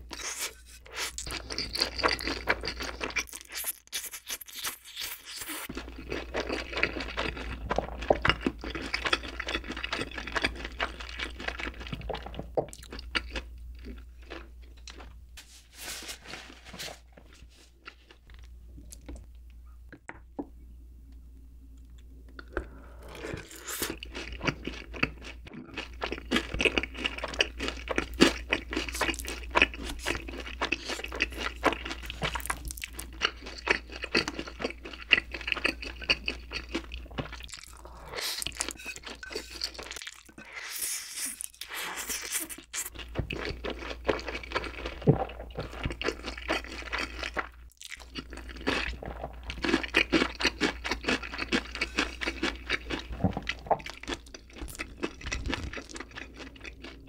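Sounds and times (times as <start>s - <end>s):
crunchy chewing of fried chicken: 0.0s - 15.2s, 22.4s - 57.0s
noodles slurped and chewed: 0.1s - 15.0s, 22.4s - 57.0s.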